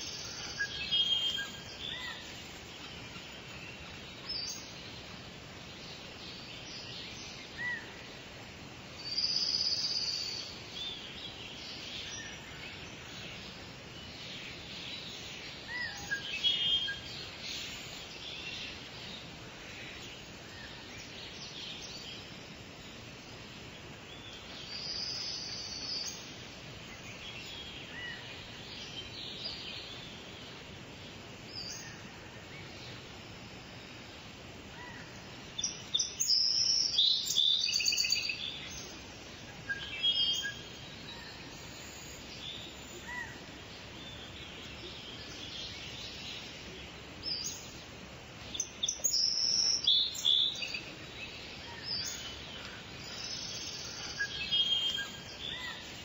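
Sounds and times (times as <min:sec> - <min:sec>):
background hiss: 0:00.0 - 0:56.0
birds chirping and trilling: 0:00.0 - 0:56.0.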